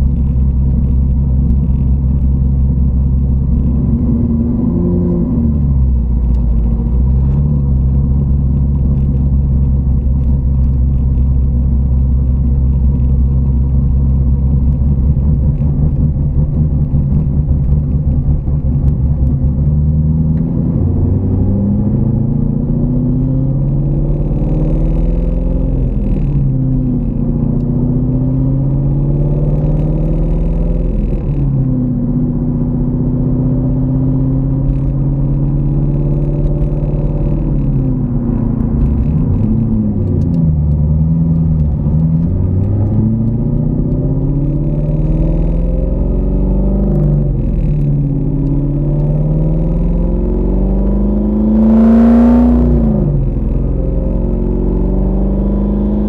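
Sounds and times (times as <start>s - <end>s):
car engine accelerating: 0.0s - 56.0s
low road rumble: 0.0s - 56.0s.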